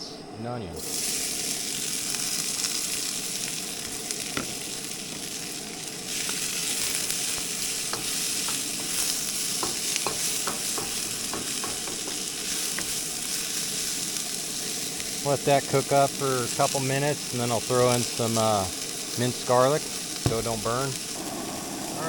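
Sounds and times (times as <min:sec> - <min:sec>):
vegetables sizzling in a wok: 0:00.8 - 0:22.0.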